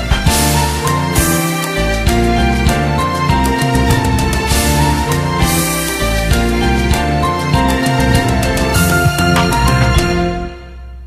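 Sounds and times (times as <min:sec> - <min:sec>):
background music with drum hits: 0:00.0 - 0:10.7.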